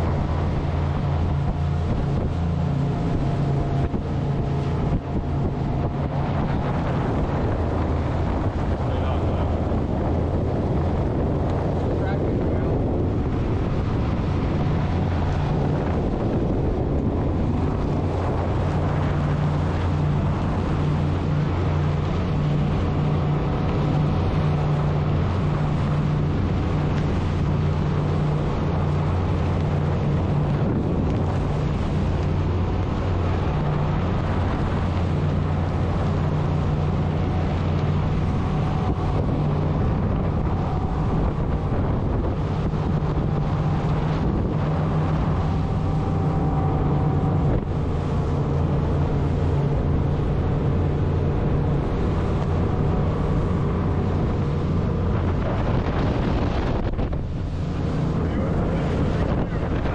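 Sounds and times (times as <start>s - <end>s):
boat engines droning: 0.0s - 59.9s
wind buffeting microphone: 0.0s - 59.9s.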